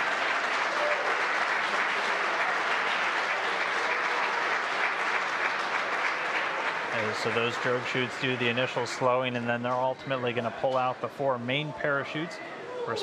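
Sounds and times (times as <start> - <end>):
crowd applauding and cheering: 0.0 - 10.5.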